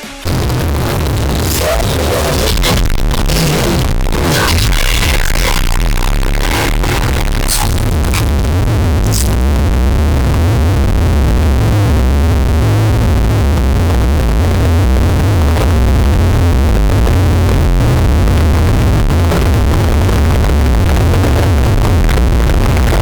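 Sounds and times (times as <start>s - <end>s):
crackles: 0.0s - 23.0s
slowed distorted burp rumble: 0.2s - 23.0s.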